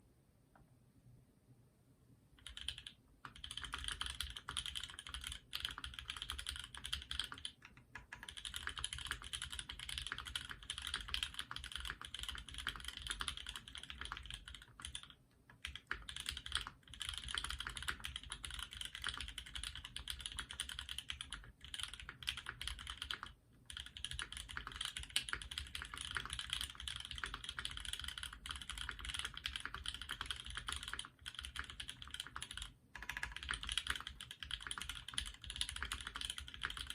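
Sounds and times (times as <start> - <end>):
mechanical keyboard typing: 2.4 - 36.9.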